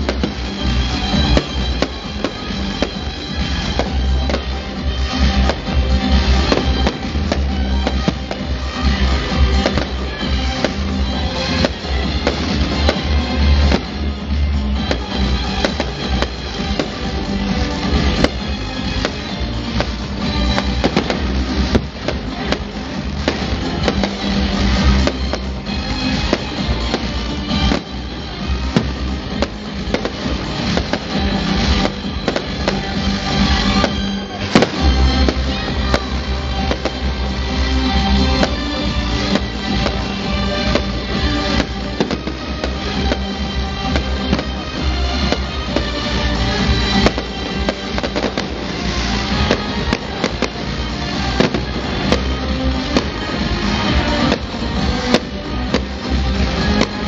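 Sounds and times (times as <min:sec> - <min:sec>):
fireworks bangs: 0:00.0 - 0:57.0
music playing: 0:00.0 - 0:57.0.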